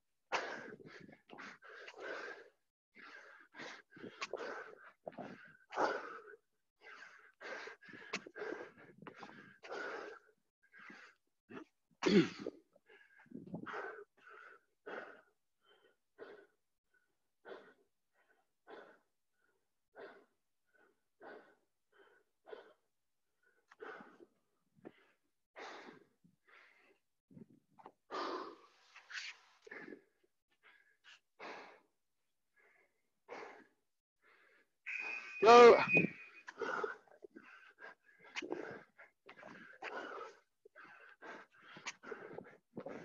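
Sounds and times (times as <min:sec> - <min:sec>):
man breathing hard: 0:00.3 - 0:34.8, 0:35.6 - 0:43.0.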